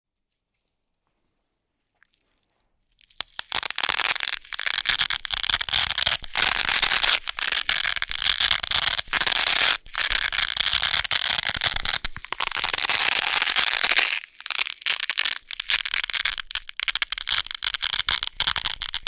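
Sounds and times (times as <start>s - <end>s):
hook-and-loop tape ripping: 3.0s - 19.0s.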